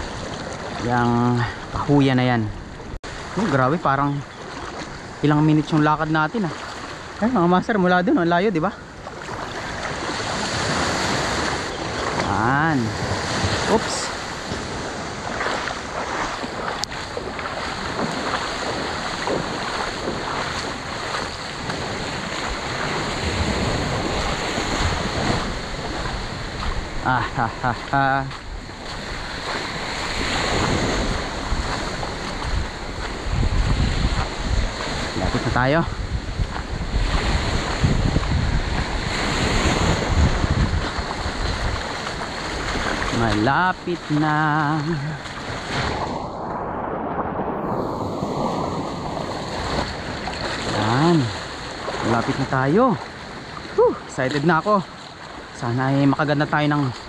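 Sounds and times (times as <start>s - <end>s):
waves washing on rocky shore: 0.0s - 57.0s
wind buffeting microphone: 0.0s - 57.0s.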